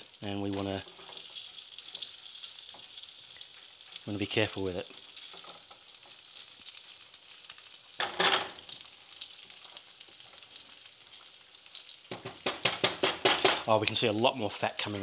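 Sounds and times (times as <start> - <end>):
meat sizzling in fat: 0.0 - 15.0.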